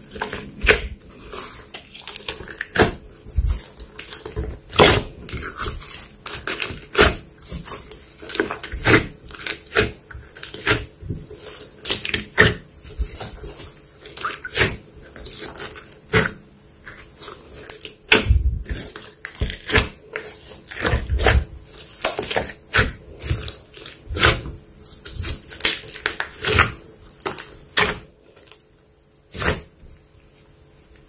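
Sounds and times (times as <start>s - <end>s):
slime squelches: 0.0s - 31.0s.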